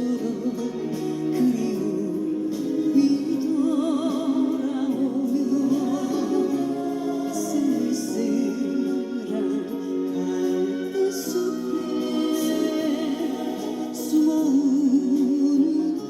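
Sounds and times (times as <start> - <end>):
instrumental accompaniment: 0.0 - 16.0
person singing with vibrato: 0.0 - 16.0.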